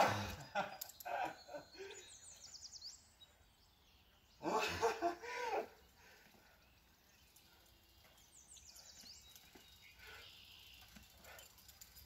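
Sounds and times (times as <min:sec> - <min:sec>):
faint forest ambience: 0:00.0 - 0:12.0.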